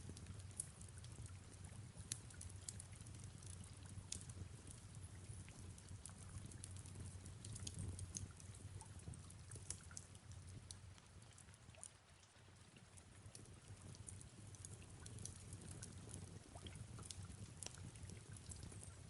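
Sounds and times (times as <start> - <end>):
soft rain: 0.0 - 19.0
fireplace crackling: 0.1 - 12.3, 13.3 - 19.0.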